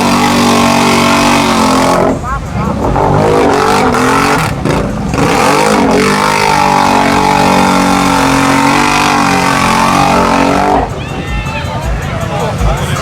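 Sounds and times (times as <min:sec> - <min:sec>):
off-road engine revving hard: 0:00.0 - 0:11.0.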